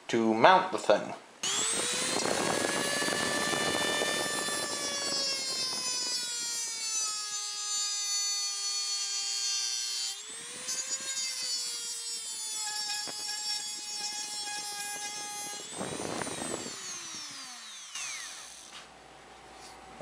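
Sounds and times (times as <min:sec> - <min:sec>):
cutoff wheel grinding metal: 0:01.4 - 0:09.4, 0:10.0 - 0:18.8
rotary tool motor whine: 0:01.4 - 0:19.0.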